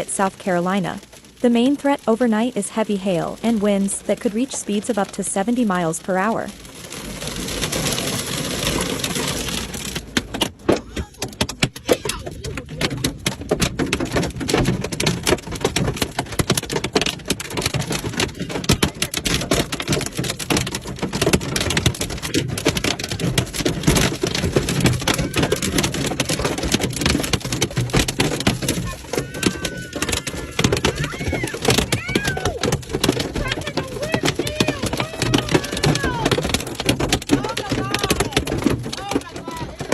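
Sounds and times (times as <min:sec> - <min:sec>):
hailstones clattering on hard surfaces: 0:00.0 - 0:39.9.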